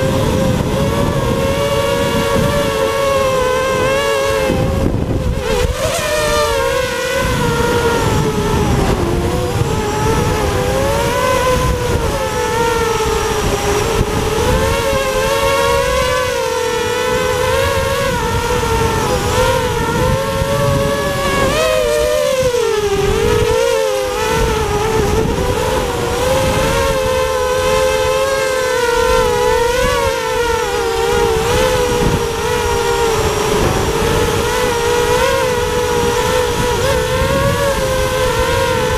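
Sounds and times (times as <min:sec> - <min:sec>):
drone motors whining: 0:00.0 - 0:38.9
wind rush on microphone: 0:00.0 - 0:38.9.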